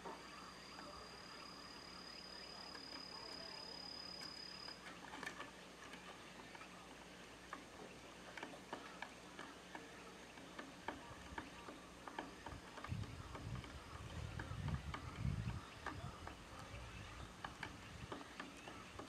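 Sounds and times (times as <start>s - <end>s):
birds pecking at feeder: 0.0s - 19.0s.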